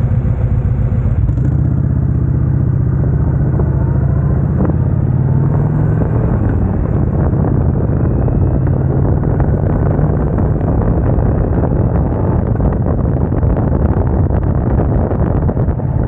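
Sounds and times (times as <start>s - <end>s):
motorcycle engine running: 0.0s - 16.0s
wind noise on microphone: 1.2s - 16.0s.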